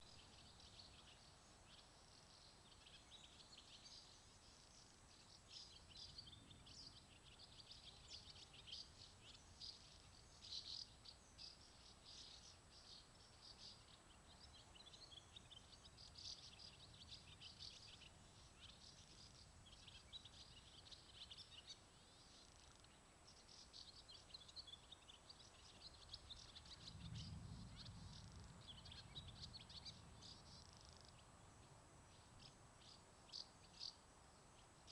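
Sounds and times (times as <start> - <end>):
birds chirping: 0.0 - 34.9
low background hiss: 0.0 - 34.9.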